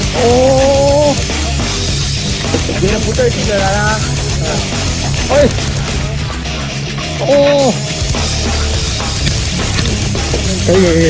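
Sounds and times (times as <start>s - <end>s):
rock music with steady beat: 0.0s - 11.0s.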